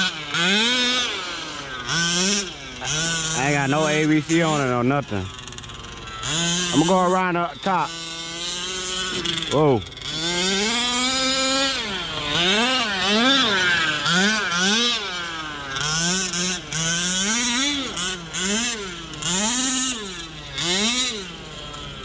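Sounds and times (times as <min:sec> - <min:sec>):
small two-stroke engine revving: 0:00.0 - 0:22.0.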